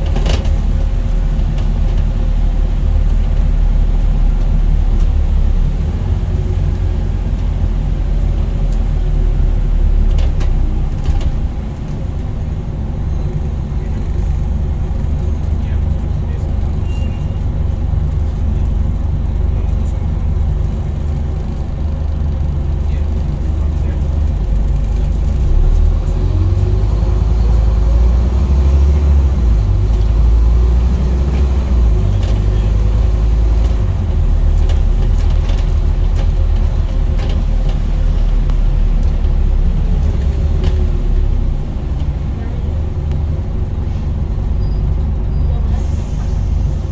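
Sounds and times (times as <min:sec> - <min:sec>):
bus diesel engine rumbling: 0:00.0 - 0:46.9.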